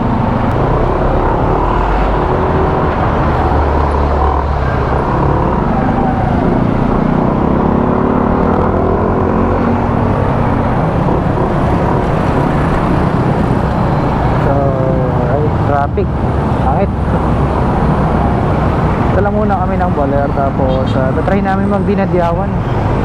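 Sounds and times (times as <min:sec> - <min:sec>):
scooter engine hum: 0:00.0 - 0:19.2
wind rush on microphone: 0:00.0 - 0:23.0.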